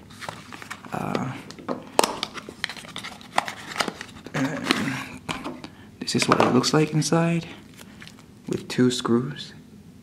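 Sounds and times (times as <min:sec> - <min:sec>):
rustling handling noise: 0:00.0 - 0:08.3.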